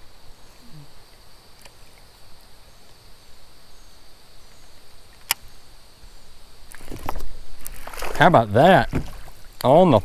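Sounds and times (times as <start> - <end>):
faint insect buzz: 0.0 - 10.0.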